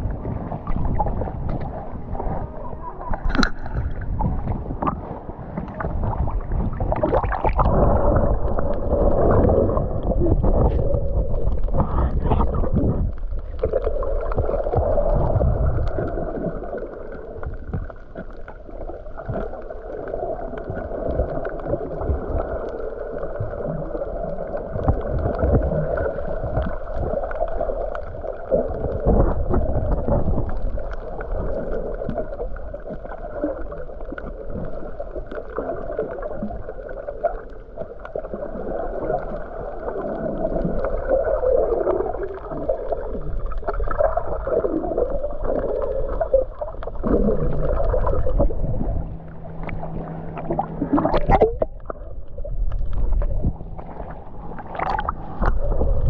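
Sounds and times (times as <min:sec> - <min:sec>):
muffled rushing gurgling water: 0:00.0 - 0:56.0.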